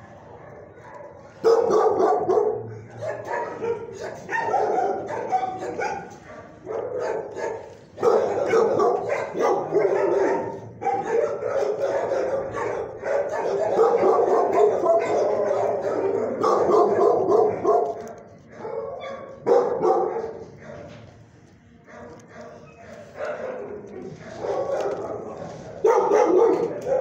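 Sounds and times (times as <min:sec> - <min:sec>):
dogs barking: 0:00.0 - 0:21.1, 0:21.8 - 0:27.0.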